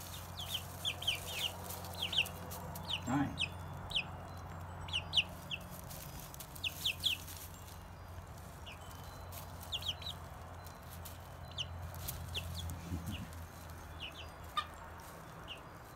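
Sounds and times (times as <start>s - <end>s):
hens chirping and peeping: 0.0s - 15.9s.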